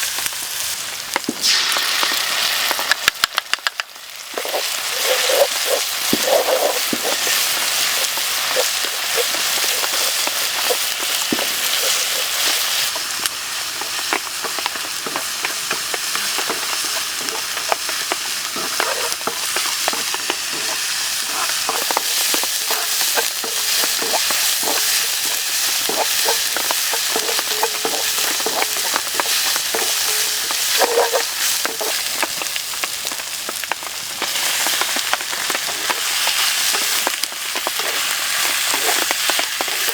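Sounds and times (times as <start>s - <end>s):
loud sizzle of frying: 0.0s - 39.9s
utensil scraping against pan: 4.4s - 13.0s, 13.8s - 32.8s, 34.4s - 39.9s.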